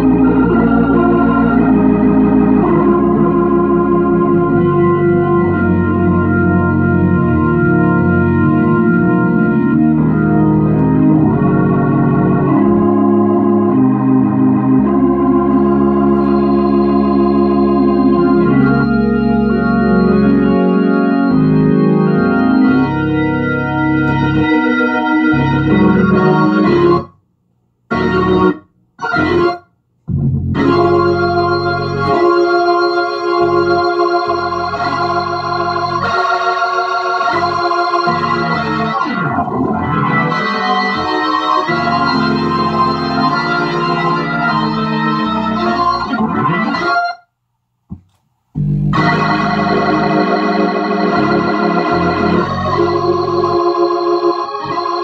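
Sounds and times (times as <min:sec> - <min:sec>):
organ chords with wavering shimmer: 0:00.0 - 0:27.1, 0:27.9 - 0:47.2, 0:48.6 - 0:55.0.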